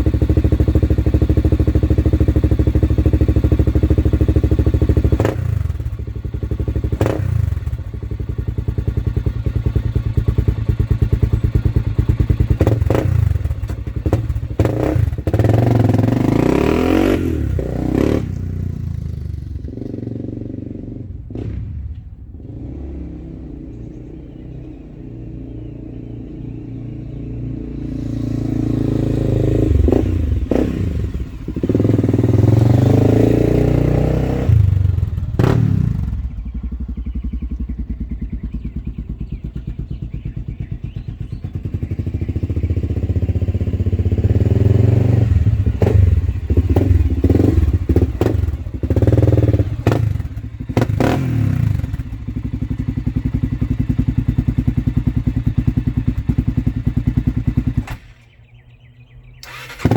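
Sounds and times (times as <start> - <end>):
engine idling and revving: 0.0 - 59.9.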